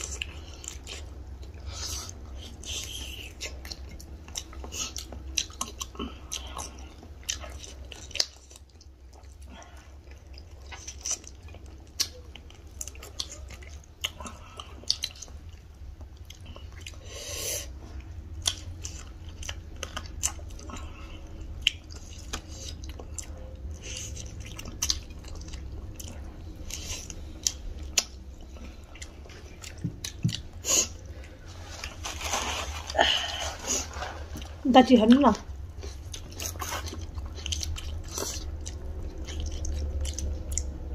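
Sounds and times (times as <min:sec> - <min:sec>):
chewing and lip smacks: 0:00.0 - 0:17.1, 0:17.7 - 0:32.0, 0:33.9 - 0:40.9
low steady hum: 0:00.0 - 0:40.9.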